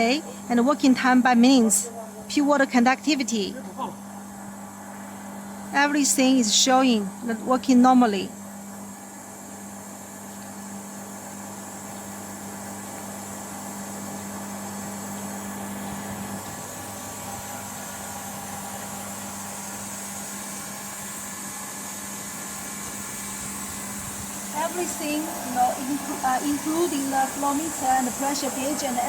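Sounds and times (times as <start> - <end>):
pump and motor hum with hiss: 0.0 - 29.0.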